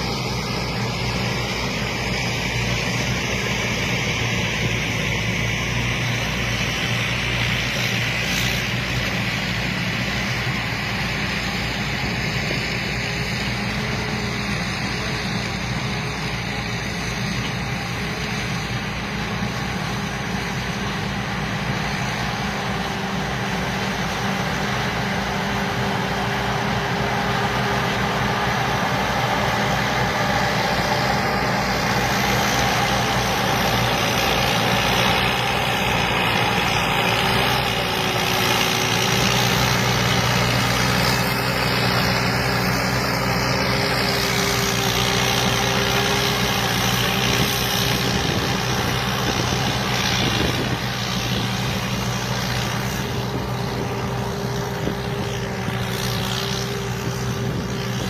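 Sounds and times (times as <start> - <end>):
combine harvester engine running: 0.0 - 58.0
machinery whirring: 0.0 - 58.0.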